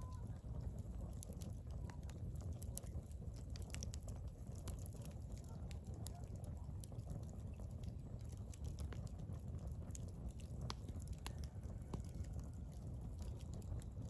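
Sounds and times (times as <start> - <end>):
burning logs crackling: 0.0 - 14.0
wood fire rumbling: 0.0 - 14.0.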